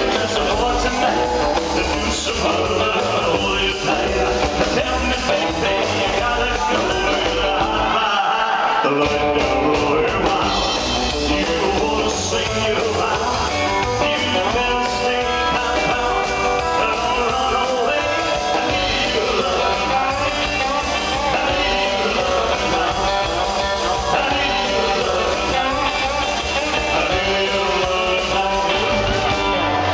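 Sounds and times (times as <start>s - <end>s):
upright double bass: 0.0s - 8.2s, 8.9s - 29.9s
man singing into microphone: 0.0s - 29.7s
live rock and roll band: 0.0s - 29.9s.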